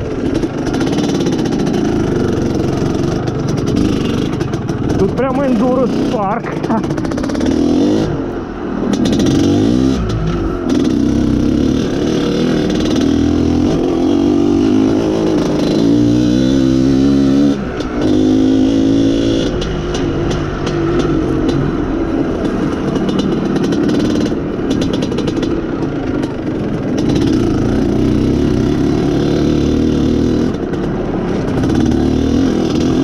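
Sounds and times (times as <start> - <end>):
motorcycle two-stroke engine revving: 0.0 - 33.0.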